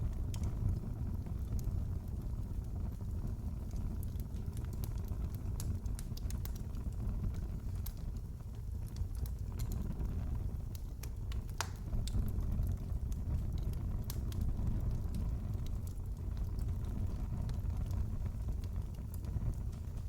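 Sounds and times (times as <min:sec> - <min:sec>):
fire popping and snapping: 0:00.0 - 0:20.0
fire rumbling in fireplace: 0:00.0 - 0:20.0.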